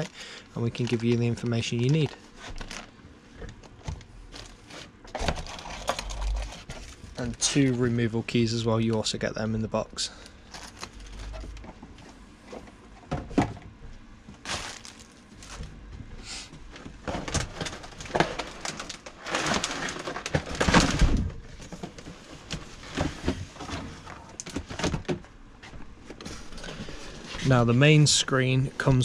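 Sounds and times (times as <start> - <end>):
cardboard and plastic rustling: 0.0 - 9.3, 10.0 - 13.6, 14.2 - 16.0, 16.6 - 28.0.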